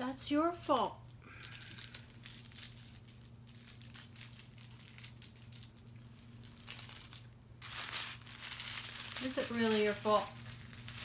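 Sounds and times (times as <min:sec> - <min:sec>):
low steady hum: 0:00.0 - 0:11.0
plastic bags crinkling: 0:00.8 - 0:11.0.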